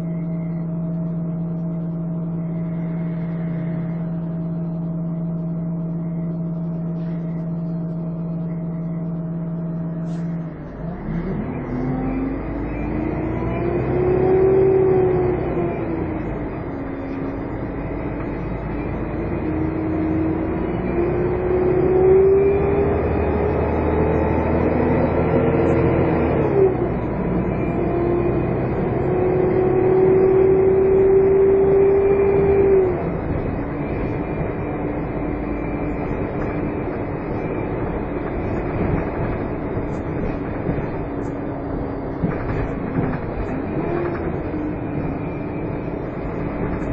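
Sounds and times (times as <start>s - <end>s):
bus diesel engine whining: 0.0s - 46.9s.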